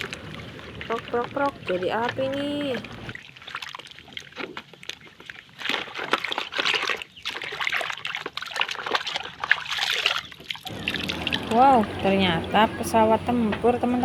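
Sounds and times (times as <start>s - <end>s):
water dribbling: 0.0s - 14.0s
water splashing and sloshing: 0.0s - 14.0s.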